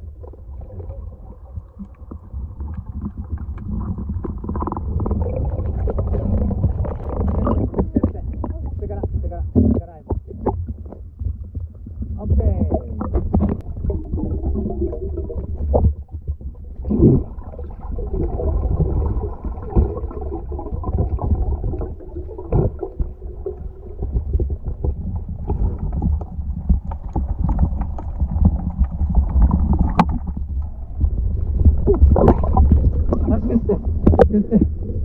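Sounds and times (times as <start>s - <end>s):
underwater knocks and clicks: 0.0s - 35.0s
underwater rumble: 0.0s - 35.0s.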